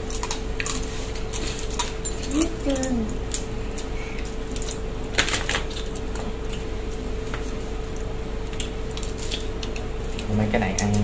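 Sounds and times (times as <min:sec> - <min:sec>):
crab shell cracking: 0:00.0 - 0:11.0
steady low hum: 0:00.0 - 0:11.0.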